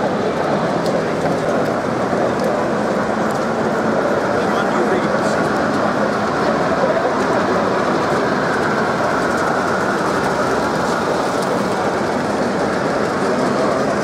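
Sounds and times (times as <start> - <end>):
crowd chatter: 0.0 - 14.0
model train running: 0.0 - 14.0.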